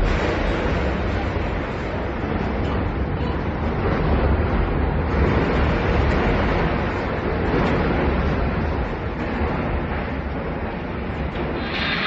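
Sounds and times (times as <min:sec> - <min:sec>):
churned water rushing: 0:00.0 - 0:12.0
ship engine low rumble: 0:00.0 - 0:12.0
wind buffeting microphone: 0:00.0 - 0:12.0.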